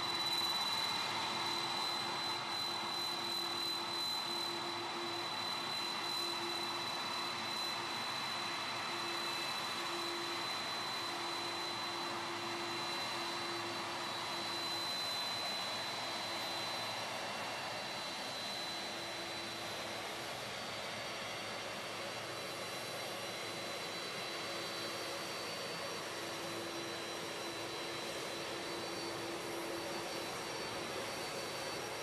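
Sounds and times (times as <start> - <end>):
jet engines rushing and whining: 0.0 - 32.0.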